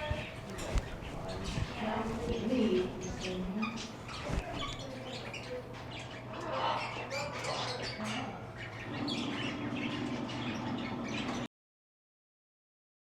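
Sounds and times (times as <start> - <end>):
parrots chirping and squawking: 0.0 - 11.5.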